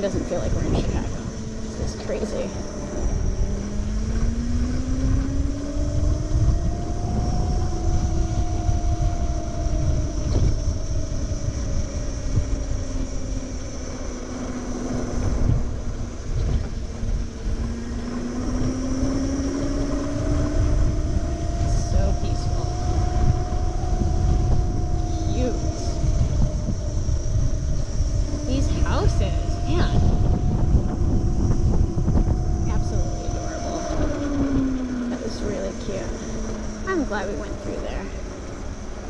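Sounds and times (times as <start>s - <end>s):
electric motor whine: 0.0s - 39.0s
wind buffeting microphone: 0.0s - 39.0s.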